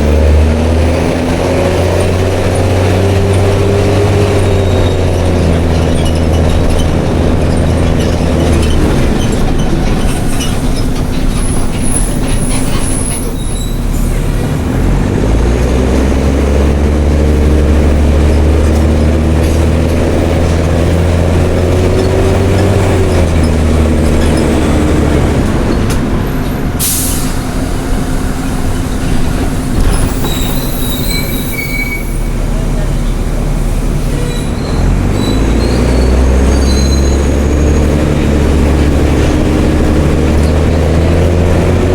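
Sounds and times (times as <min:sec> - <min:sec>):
diesel bus engine revving: 0:00.0 - 0:41.9.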